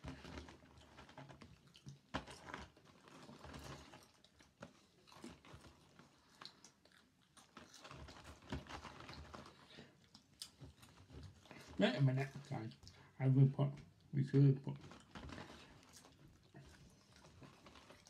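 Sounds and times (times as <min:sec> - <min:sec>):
people chewing popcorn: 0:00.0 - 0:18.0.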